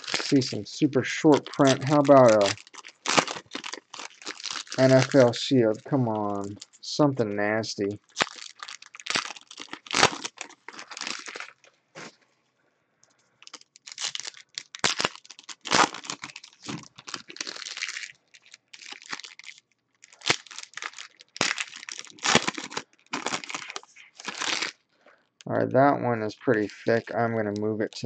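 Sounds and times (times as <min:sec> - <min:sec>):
foil wrappers crinkling and tearing: 0:00.0 - 0:06.9, 0:08.0 - 0:12.1, 0:13.4 - 0:24.8, 0:26.2 - 0:28.0.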